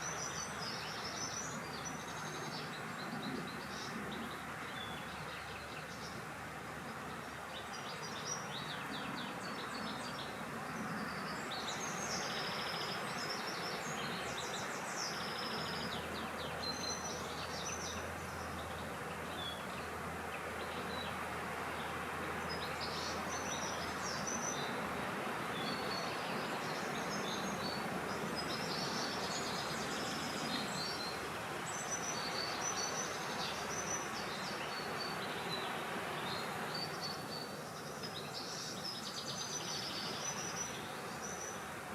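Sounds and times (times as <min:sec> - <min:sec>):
small birds chirping and trilling: 0:00.0 - 0:41.9.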